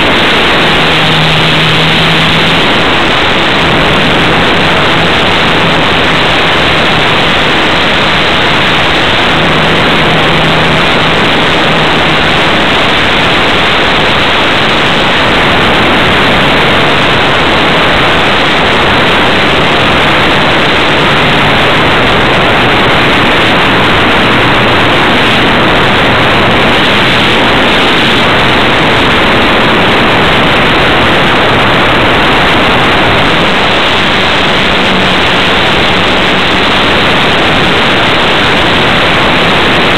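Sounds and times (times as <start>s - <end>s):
motor propeller noise: 0.0s - 39.9s
wind rush: 0.0s - 39.9s.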